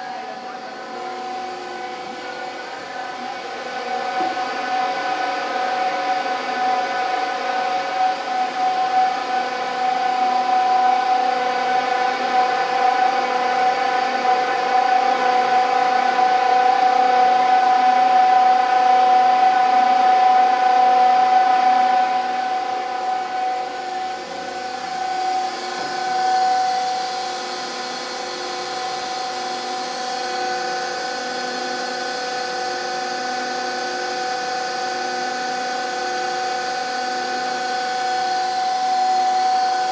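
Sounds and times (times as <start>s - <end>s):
blender drive mechanical whine: 0.0s - 39.9s.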